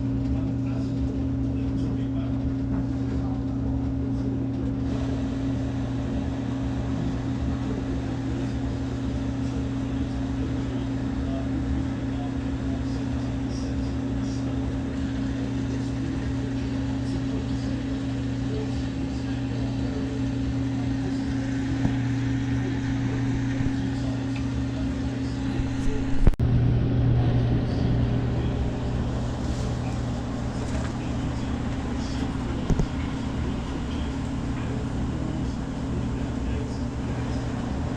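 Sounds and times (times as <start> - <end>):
washing machine motor hum: 0.0 - 37.9.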